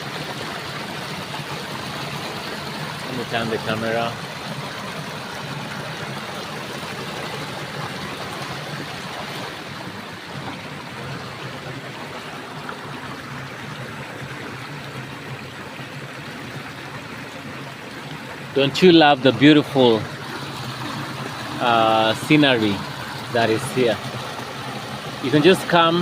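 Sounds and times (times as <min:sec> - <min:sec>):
stream flowing: 0:00.0 - 0:26.0.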